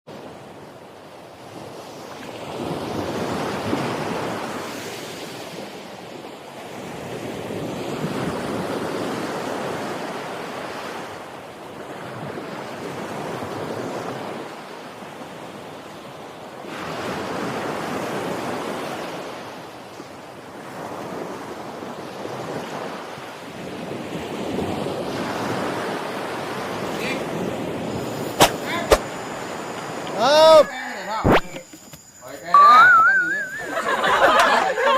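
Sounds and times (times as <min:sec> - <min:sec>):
sea waves breaking on beach: 0:00.1 - 0:30.9.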